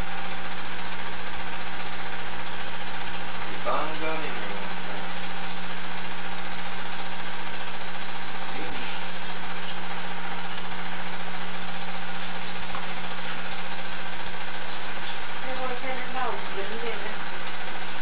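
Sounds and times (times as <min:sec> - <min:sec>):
film projector motor whirring: 0:00.0 - 0:18.0.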